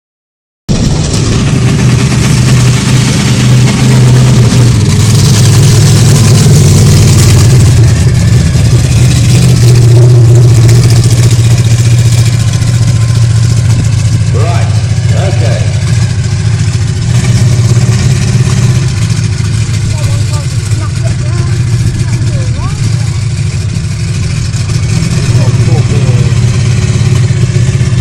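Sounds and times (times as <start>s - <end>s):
monster truck engine running: 0.7s - 28.0s.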